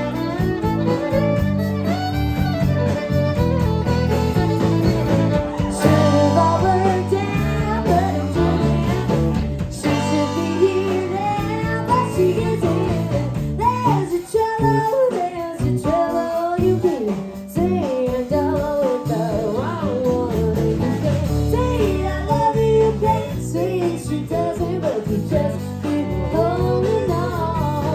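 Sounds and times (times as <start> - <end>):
acoustic guitar: 0.0 - 27.9
country band playing: 0.0 - 27.9
woman singing: 5.5 - 27.9.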